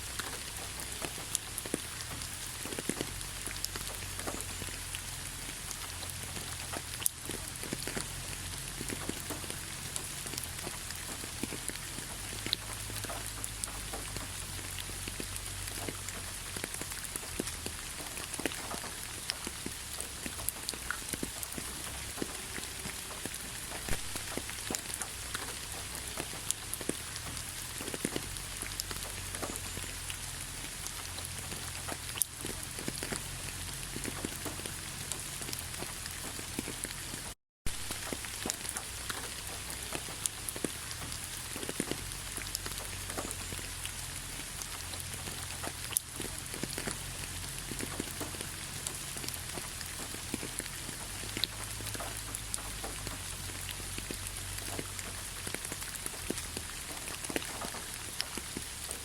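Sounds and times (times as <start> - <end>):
raindrops ticking close by: 0.0 - 59.0
steady rainfall: 0.0 - 59.0.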